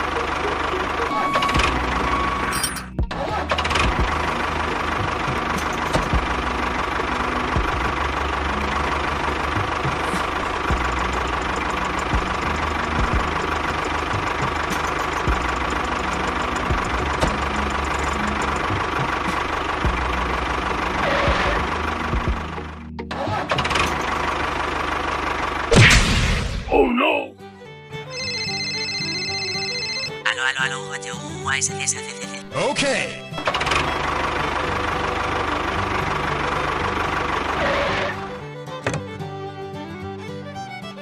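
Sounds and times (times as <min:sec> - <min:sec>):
engine running: 0:00.0 - 0:26.8, 0:27.4 - 0:41.0
background music: 0:00.0 - 0:41.0.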